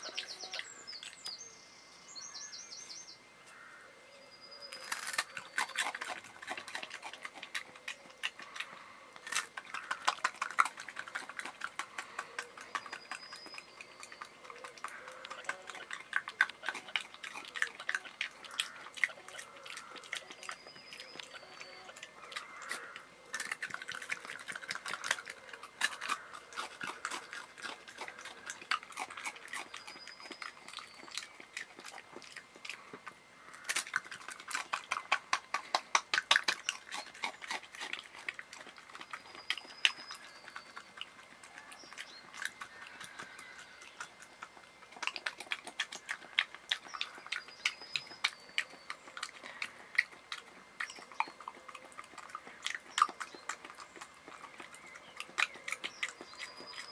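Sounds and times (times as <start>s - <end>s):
badger licking and chewing: 0.0s - 1.4s, 4.7s - 56.9s.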